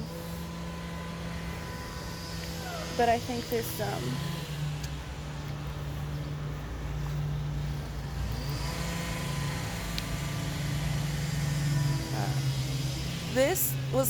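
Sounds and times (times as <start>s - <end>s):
road noise: 0.0s - 14.0s
vehicle engine humming: 0.0s - 14.0s.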